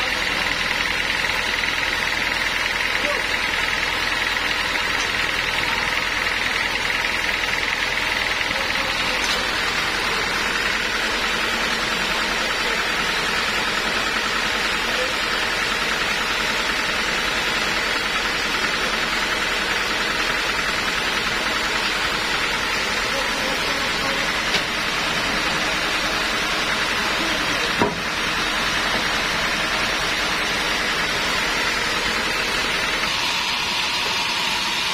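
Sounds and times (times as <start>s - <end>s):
band sawmill running: 0.0s - 34.9s.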